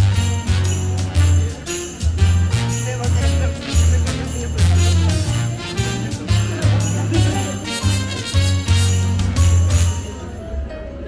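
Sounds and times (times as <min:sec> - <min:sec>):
heavy pulsing bass line: 0:00.0 - 0:10.0
sleigh bells shaken: 0:00.0 - 0:10.3.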